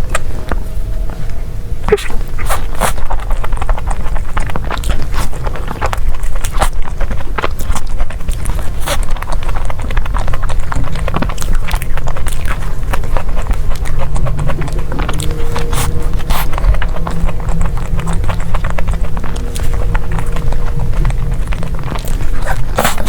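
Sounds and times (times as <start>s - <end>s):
biting and chewing: 0.0s - 23.0s
low rumble: 0.0s - 23.0s.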